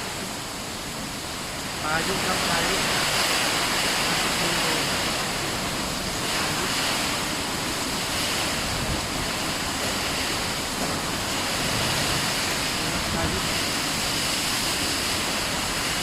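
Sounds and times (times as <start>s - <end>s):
rain: 0.0s - 16.0s
storm wind: 0.0s - 16.0s.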